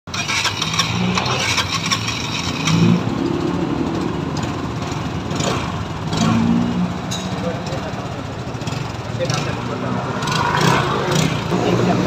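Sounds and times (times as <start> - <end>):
scooter engine idling: 0.1 - 12.0.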